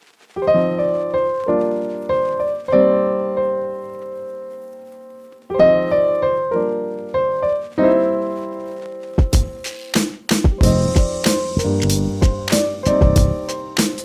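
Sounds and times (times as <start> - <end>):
piano chords: 0.4 - 9.8, 10.5 - 14.0.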